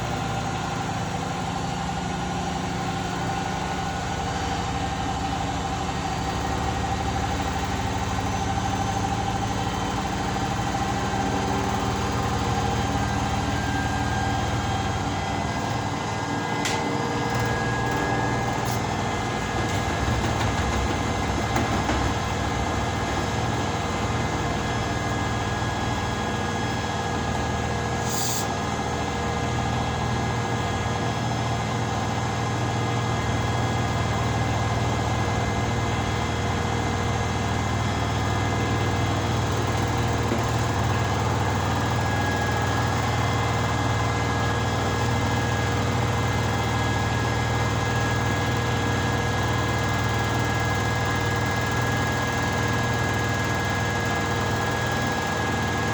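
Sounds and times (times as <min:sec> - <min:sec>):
washing machine running: 0:04.6 - 0:27.9, 0:32.0 - 0:55.9.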